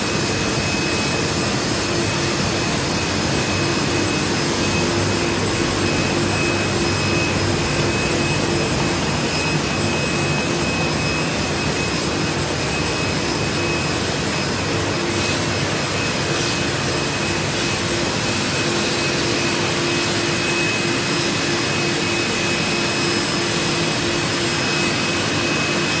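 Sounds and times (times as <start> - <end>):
machine whir with whining tones: 0.0 - 26.0.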